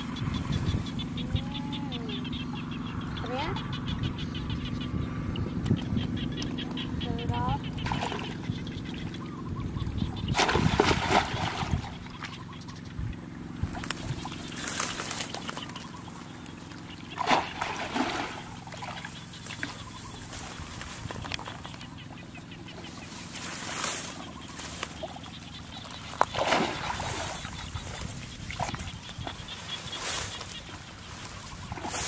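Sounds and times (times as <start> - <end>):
muddy water splashing: 5.5 - 32.0.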